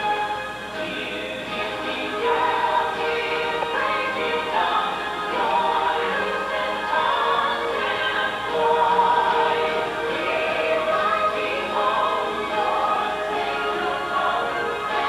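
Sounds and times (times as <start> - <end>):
choral singing: 0.0 - 15.0.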